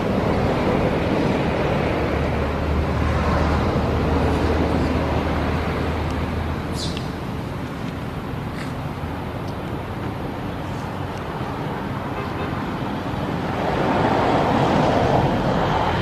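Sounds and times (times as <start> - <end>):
outdoor rumble and hiss: 0.0 - 16.0.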